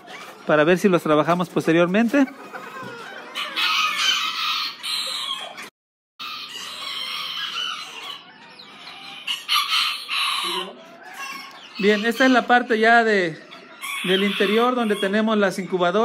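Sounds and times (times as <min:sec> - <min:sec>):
chickens clucking: 0:00.0 - 0:16.0
roosters crowing: 0:02.4 - 0:16.0.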